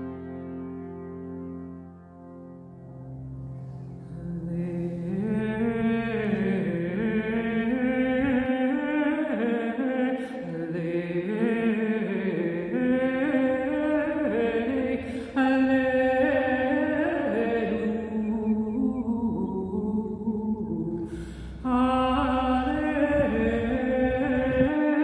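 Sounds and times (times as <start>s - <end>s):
low steady drone: 0.0s - 24.8s
woman singing wordless chant: 4.1s - 25.0s.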